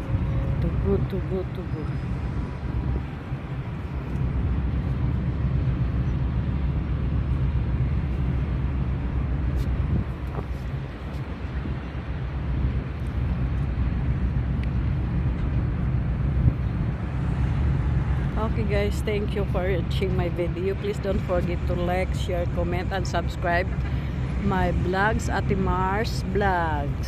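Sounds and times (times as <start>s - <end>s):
ferry engine rumble: 0.0s - 27.0s.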